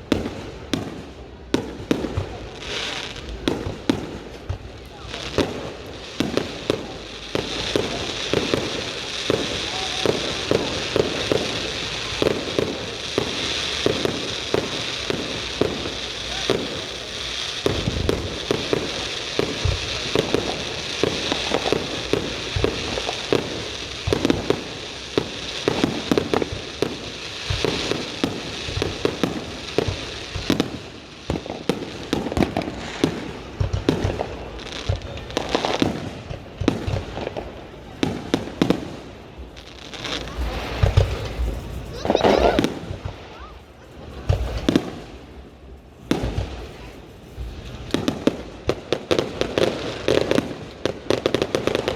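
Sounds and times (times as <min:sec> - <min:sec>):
fireworks low booms: 0:00.0 - 0:51.9
fireworks popping and crackling: 0:00.0 - 0:51.9.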